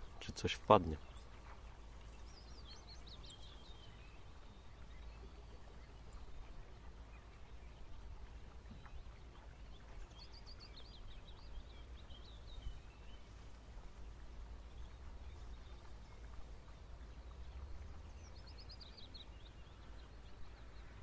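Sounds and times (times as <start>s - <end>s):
small bird twittering song: 0.0s - 21.0s.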